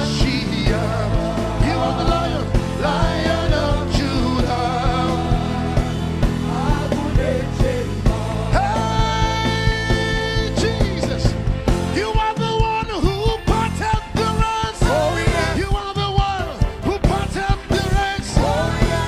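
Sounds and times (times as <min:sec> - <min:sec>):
gospel band playing: 0:00.0 - 0:19.0
steady drum beat: 0:00.0 - 0:19.0.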